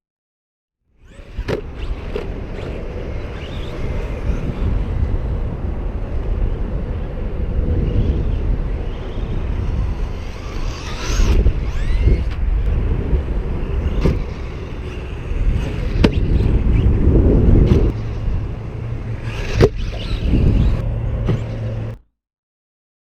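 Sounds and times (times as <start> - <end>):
electric motor whining: 1.0 - 22.0
low rumble: 1.2 - 22.0.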